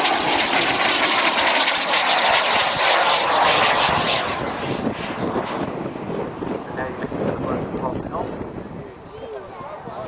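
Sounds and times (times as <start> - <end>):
model jet turbine running: 0.0 - 10.0.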